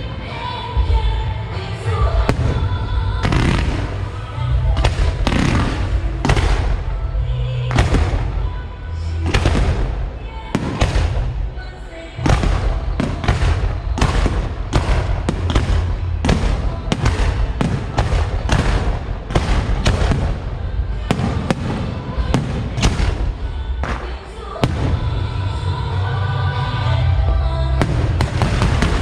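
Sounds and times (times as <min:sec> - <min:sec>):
low rumble: 0:00.8 - 0:24.0
fireworks bangs: 0:01.9 - 0:25.6, 0:27.8 - 0:29.0.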